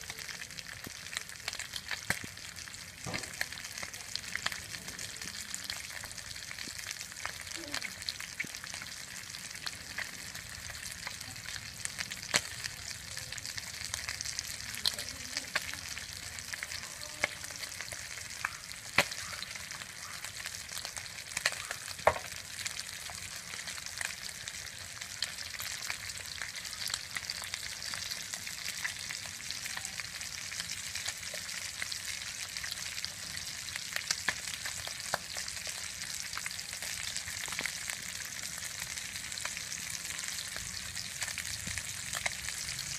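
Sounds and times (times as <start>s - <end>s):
fish sizzling in hot oil: 0.0s - 42.9s.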